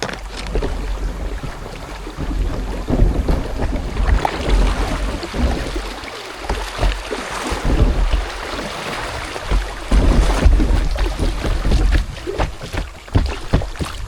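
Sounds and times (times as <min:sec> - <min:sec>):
paddle splashing in water: 0:00.0 - 0:14.0
wind rumbling on microphone: 0:00.0 - 0:14.0.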